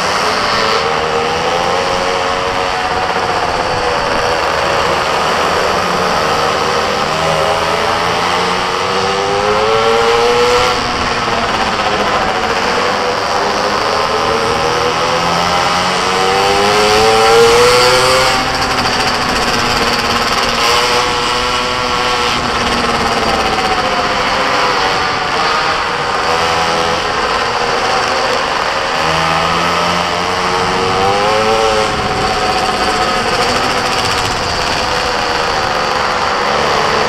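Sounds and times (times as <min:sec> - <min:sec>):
small engine revving: 0:00.0 - 0:37.0.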